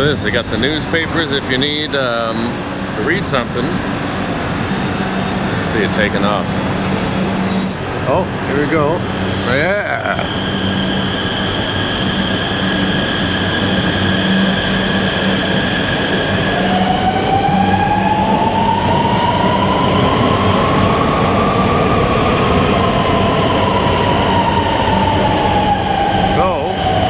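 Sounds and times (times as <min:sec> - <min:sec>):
electric train pulling away: 0:00.0 - 0:27.0.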